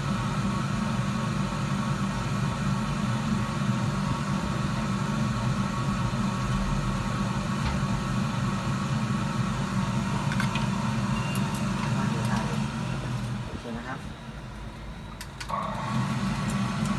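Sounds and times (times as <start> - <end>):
machine hum: 0.0 - 16.9.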